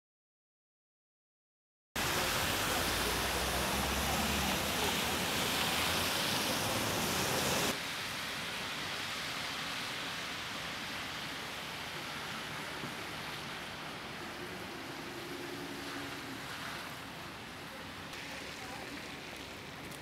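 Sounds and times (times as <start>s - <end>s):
street ambience hiss: 2.0s - 20.0s.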